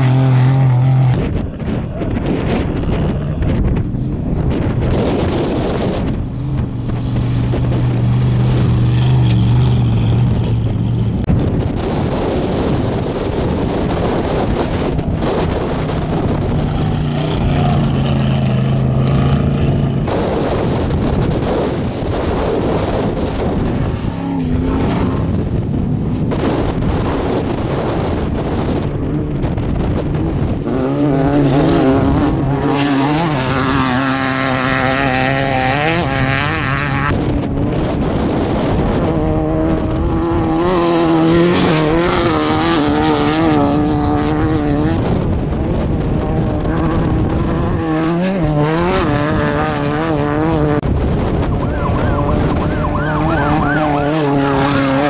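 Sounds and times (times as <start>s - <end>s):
race vehicles passing at speed: 0.0s - 55.0s.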